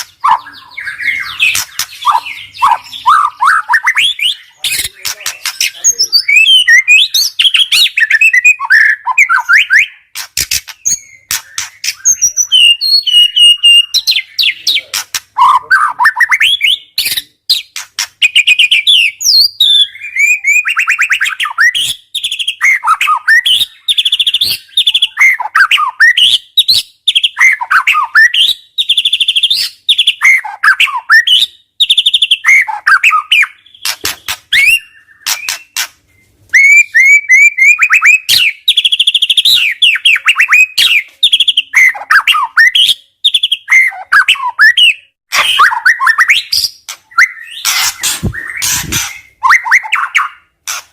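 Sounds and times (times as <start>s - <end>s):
songbird singing whistles and trills: 0.0s - 50.5s.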